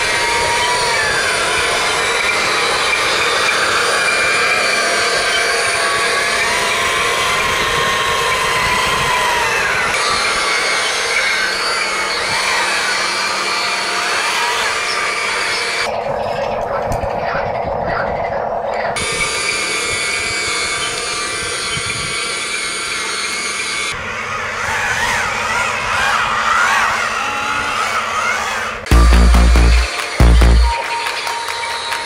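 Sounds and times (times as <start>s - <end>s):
small electric motors whining: 0.0s - 15.9s, 19.0s - 32.0s.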